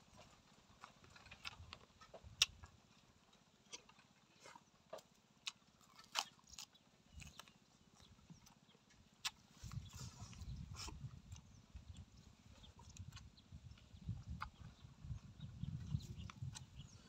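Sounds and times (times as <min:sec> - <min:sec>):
crisp chewing crunches: 0:00.0 - 0:14.8, 0:15.7 - 0:17.0.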